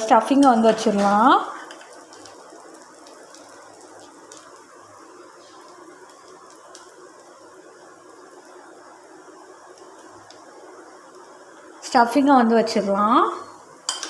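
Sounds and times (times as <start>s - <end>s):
batter sizzling on a griddle: 0.0s - 14.0s.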